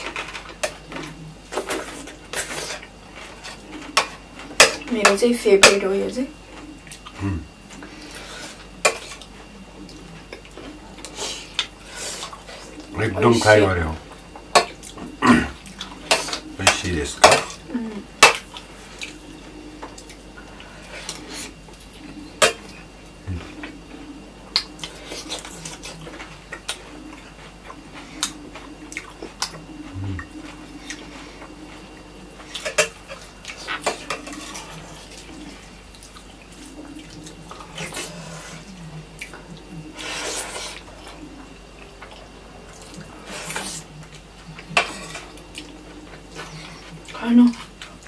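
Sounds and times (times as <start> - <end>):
eating sounds: 0.0 - 48.0.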